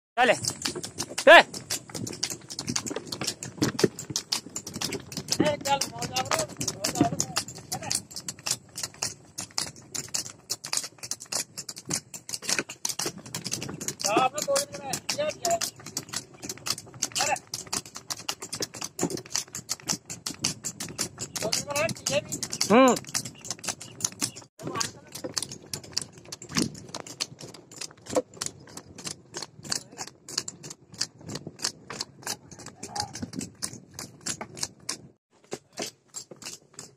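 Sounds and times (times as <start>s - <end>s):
cart rattling: 0.2s - 36.9s
hooves clattering on pavement: 0.2s - 36.9s.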